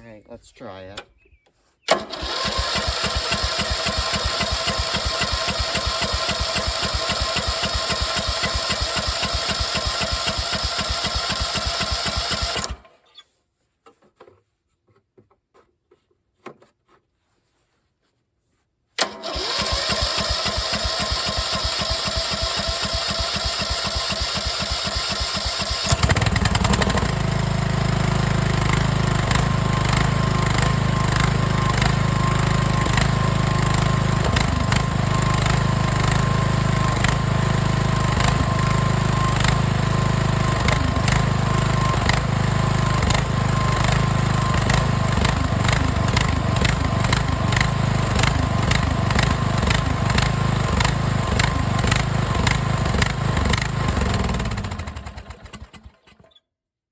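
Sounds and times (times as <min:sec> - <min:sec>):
electric starter cranking engine: 0:01.9 - 0:13.0, 0:19.0 - 0:56.4
small engine running steadily: 0:02.2 - 0:12.8, 0:19.6 - 0:56.0.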